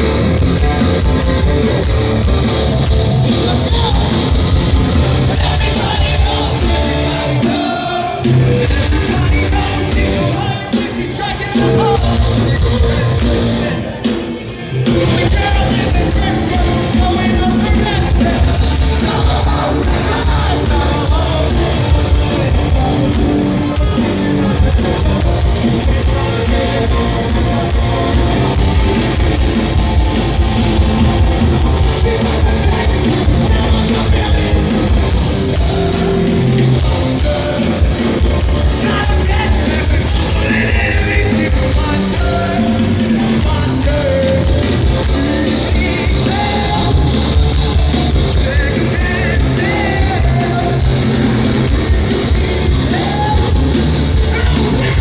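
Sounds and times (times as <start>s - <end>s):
hardcore band playing loud: 0.0s - 55.0s.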